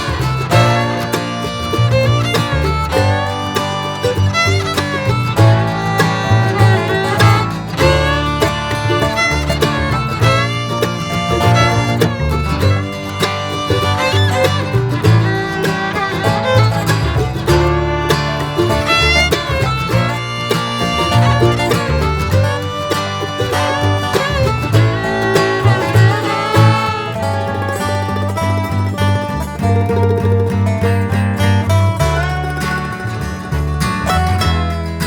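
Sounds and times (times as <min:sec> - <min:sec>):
fiddle and guitar country music: 0:00.0 - 0:35.0.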